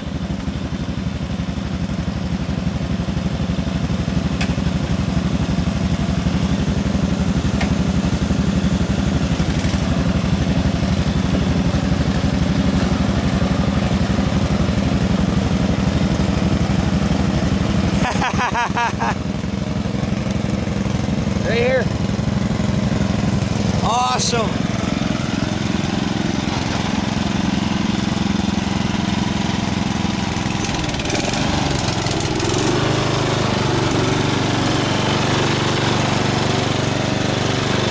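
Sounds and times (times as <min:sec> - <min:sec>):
garden tractor engine running: 0:00.0 - 0:37.9.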